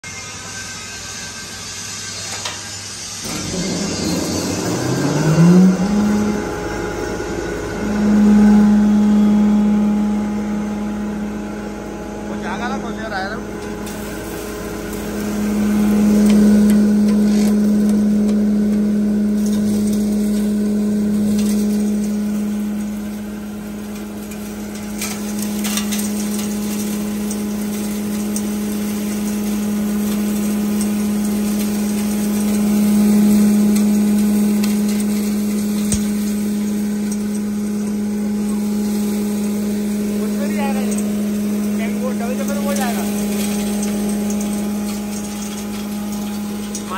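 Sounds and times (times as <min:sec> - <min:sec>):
feed grinder humming: 0:00.0 - 0:46.9.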